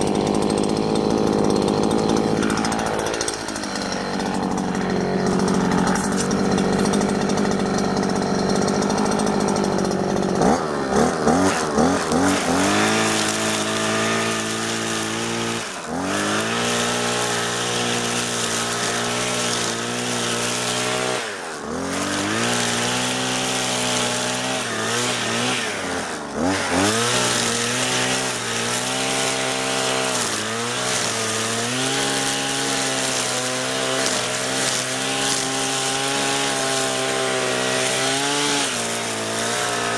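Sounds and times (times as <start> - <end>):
brushcutter revving: 0.0 - 39.9
cutting grass: 0.0 - 39.9.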